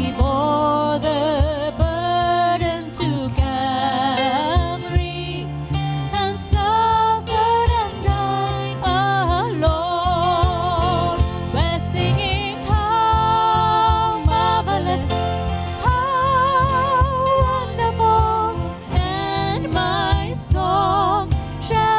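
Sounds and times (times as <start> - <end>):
keyboard and bass accompaniment: 0.0 - 21.9.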